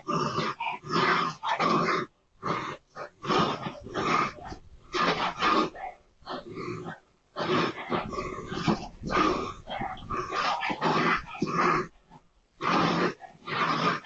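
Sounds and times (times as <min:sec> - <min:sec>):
dog and raccoon fighting: 0:00.0 - 0:14.0.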